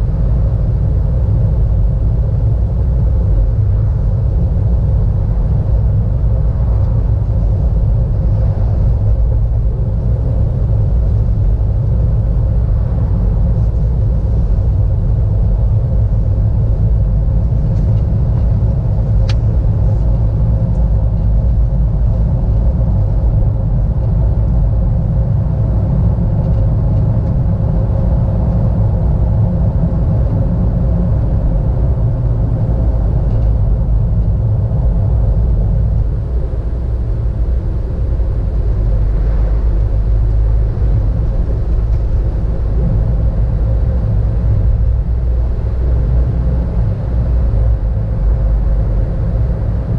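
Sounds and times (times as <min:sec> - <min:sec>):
engine and tyre rumble: 0:00.0 - 0:49.9
faint steady hum: 0:00.0 - 0:49.9.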